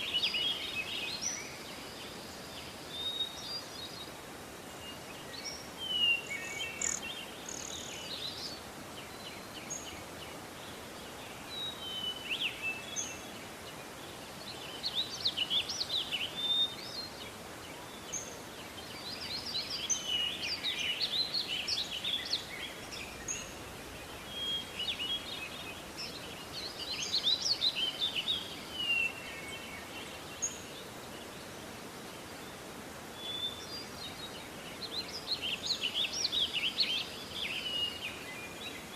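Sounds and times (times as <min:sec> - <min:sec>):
birds chirping and trilling: 0:00.0 - 0:38.9
steady background hiss: 0:00.0 - 0:38.9.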